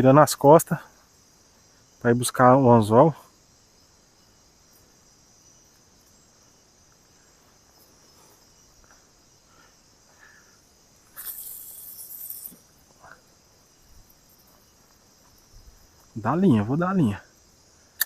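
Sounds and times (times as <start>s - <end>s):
crickets and insects chorus: 0.0s - 18.0s
loud hissing rustle: 0.4s - 18.0s.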